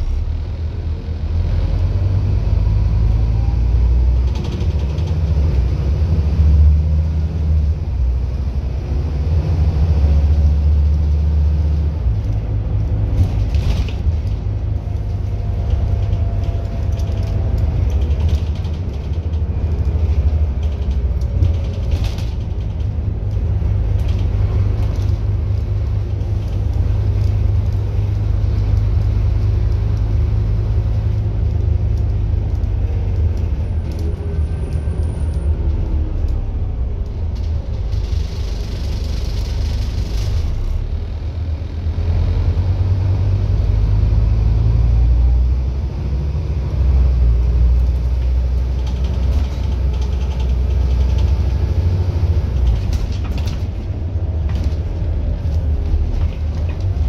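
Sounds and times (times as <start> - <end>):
bus diesel engine drone: 0.0 - 57.0
road noise: 0.0 - 57.0
bus body rattles: 3.8 - 41.1, 46.6 - 57.0.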